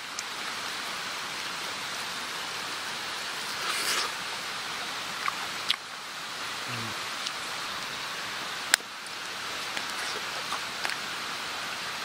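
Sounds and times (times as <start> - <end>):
rustle: 0.0 - 12.0
steady outdoor hiss: 0.0 - 12.0.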